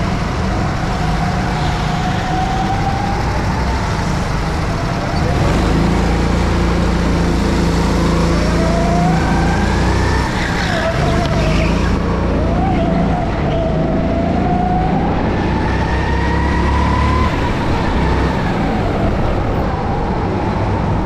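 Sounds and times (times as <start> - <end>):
go-kart engines racing: 0.0 - 21.0.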